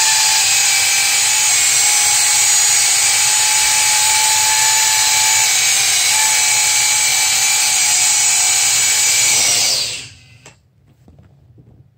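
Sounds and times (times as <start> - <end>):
electric fans whining: 0.0 - 10.6.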